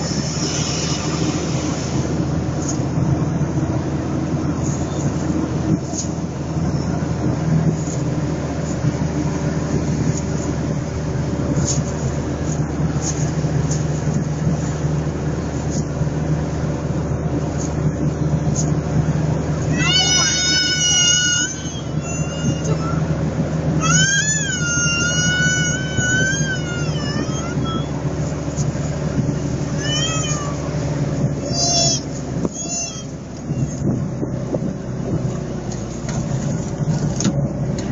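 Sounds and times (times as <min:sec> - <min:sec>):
vehicle engine and road noise: 0:00.0 - 0:37.9.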